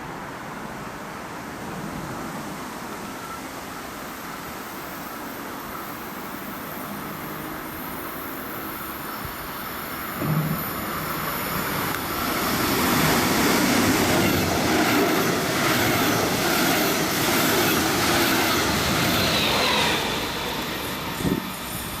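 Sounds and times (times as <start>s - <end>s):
train rolling on rails: 0.0s - 22.0s.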